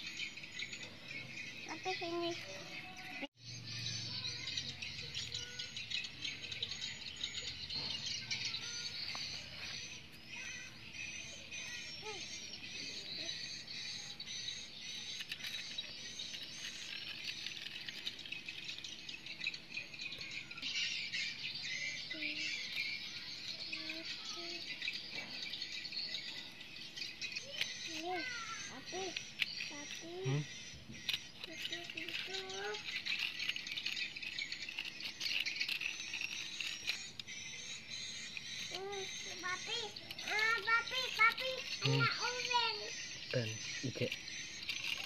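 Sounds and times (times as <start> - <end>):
bird chirping: 0.0 - 45.0
insects chirring: 0.0 - 45.0.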